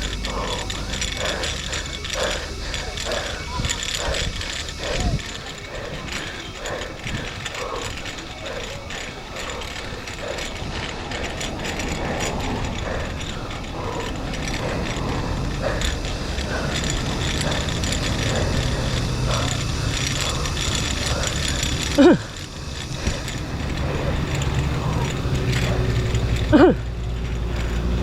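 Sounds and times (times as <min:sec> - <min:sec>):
bicycle freehub ticking: 0:00.0 - 0:28.0
low rumble: 0:00.0 - 0:28.0.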